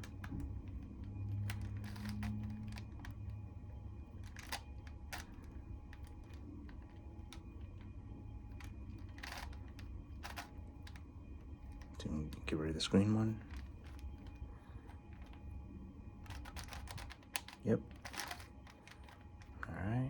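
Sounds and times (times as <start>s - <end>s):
puzzle cube clicking: 0.0s - 3.3s, 4.2s - 7.9s, 8.5s - 15.6s, 16.2s - 19.6s
low steady hum: 0.0s - 20.0s.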